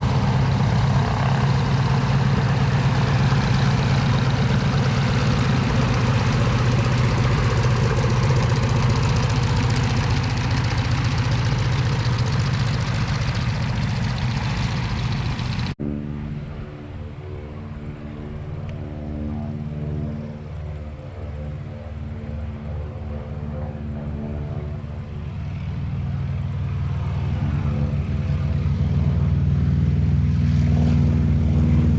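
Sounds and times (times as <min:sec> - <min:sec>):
aircraft radial engine running: 0:00.0 - 0:31.9.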